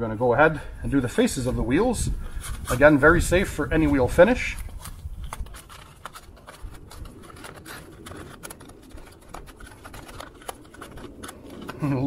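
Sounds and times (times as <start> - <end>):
faint low rumble: 0.0 - 12.0
brush scrubbing wheel: 2.0 - 12.0.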